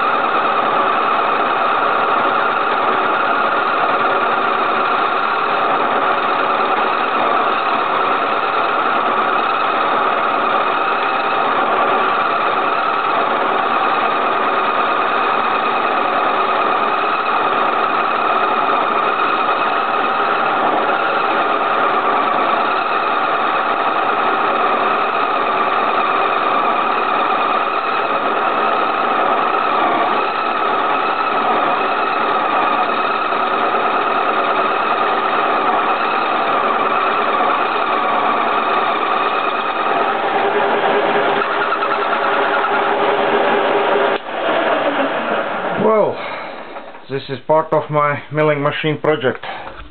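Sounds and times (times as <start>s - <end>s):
milling machine cutting steel: 0.0s - 47.2s.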